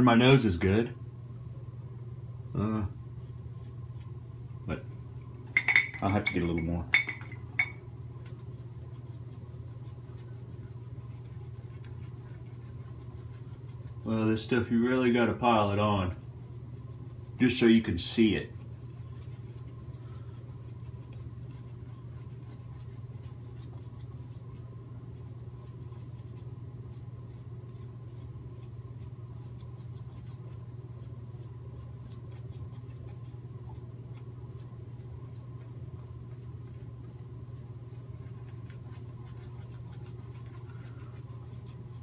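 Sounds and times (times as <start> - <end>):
low hum: 0.0 - 42.0
shaving brush scratchy rustle: 3.2 - 4.3, 7.6 - 42.0.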